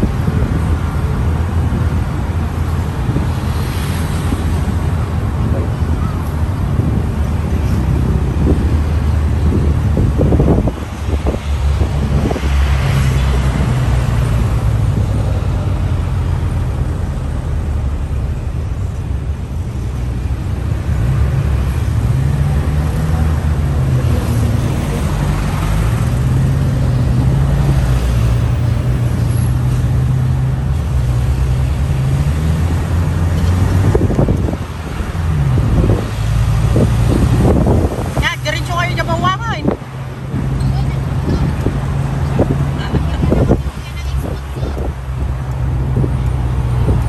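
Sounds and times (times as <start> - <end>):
road noise: 0.0 - 47.0.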